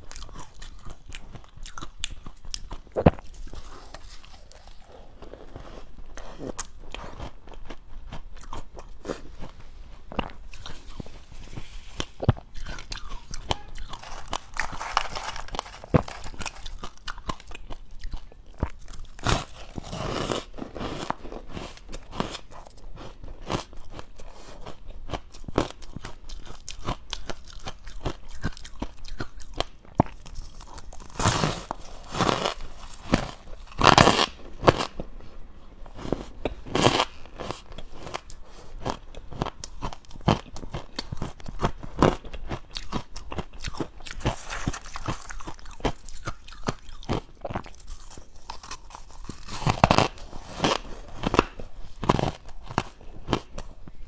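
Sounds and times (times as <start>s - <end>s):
chewing crunchy ice: 0.0s - 53.8s.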